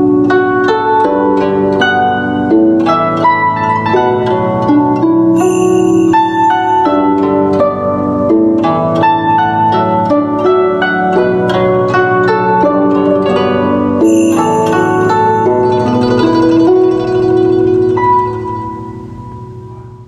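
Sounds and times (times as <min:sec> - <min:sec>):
guzheng plucked melody: 0:00.0 - 0:20.0
piano: 0:00.0 - 0:20.0.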